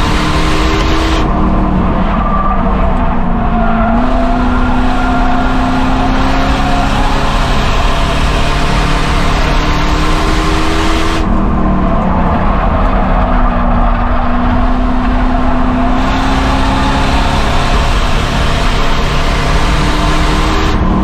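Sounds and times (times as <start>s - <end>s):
race car engine drone: 0.0s - 21.0s.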